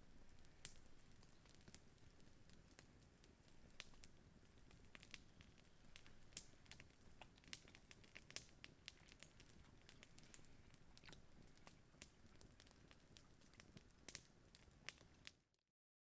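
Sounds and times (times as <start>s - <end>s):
campfire crackling: 0.0s - 15.4s.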